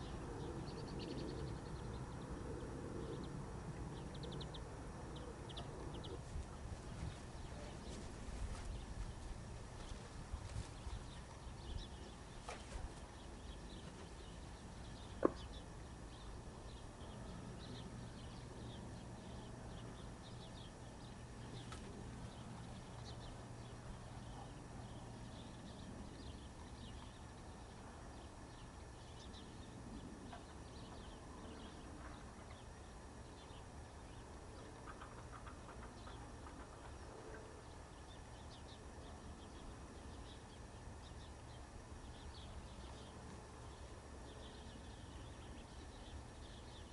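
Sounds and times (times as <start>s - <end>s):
birds chirping: 0.0s - 46.9s
low steady hum: 0.0s - 46.9s.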